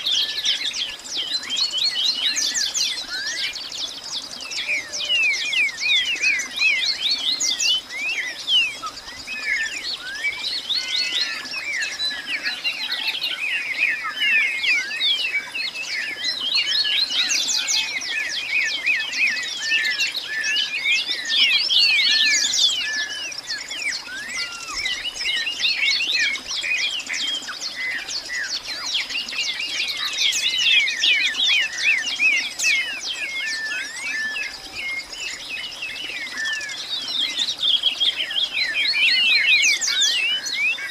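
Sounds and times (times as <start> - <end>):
many birds chirping: 0.0 - 40.9.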